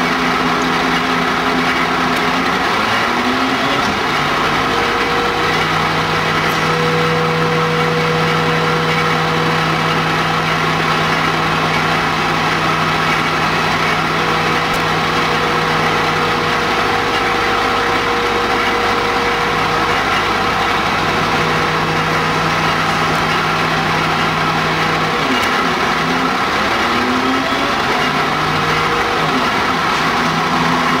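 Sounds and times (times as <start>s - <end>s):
fire engines running: 0.0s - 31.0s.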